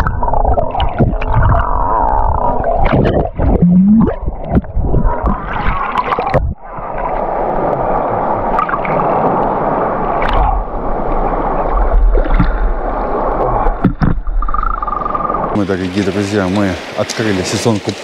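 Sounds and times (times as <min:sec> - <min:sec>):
underwater gurgling and bubbling: 0:00.0 - 0:15.6
rush of sea water: 0:00.0 - 0:18.0
water splashing: 0:00.0 - 0:18.0
wind: 0:00.0 - 0:18.0.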